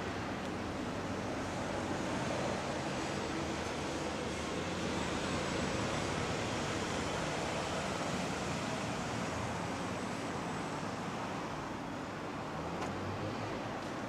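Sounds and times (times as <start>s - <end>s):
rushing street noise: 0.0s - 14.0s.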